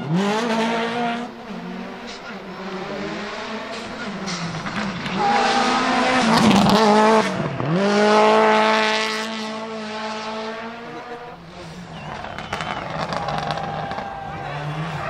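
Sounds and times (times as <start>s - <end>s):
rally car engine passing at full throttle: 0.0s - 15.0s.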